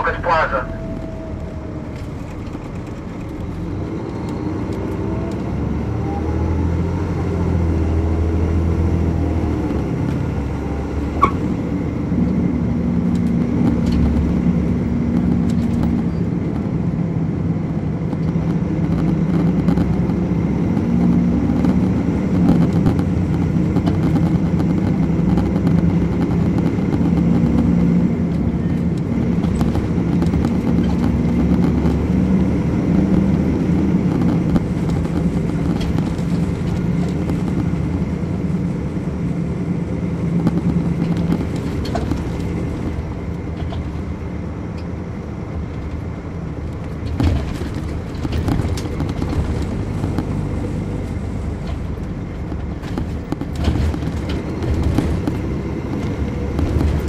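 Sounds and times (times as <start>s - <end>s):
diesel coach engine accelerating: 0.0s - 57.0s.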